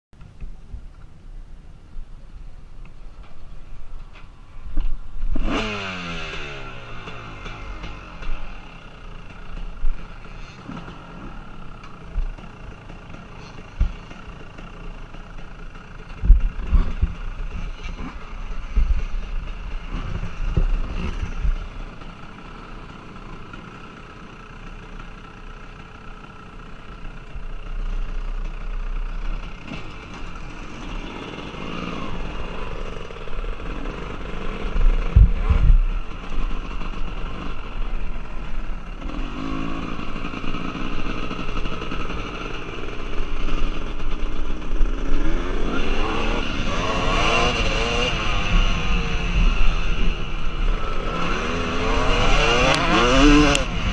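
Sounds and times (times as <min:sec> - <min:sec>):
motocross bike engines revving: 0:03.2 - 0:53.9.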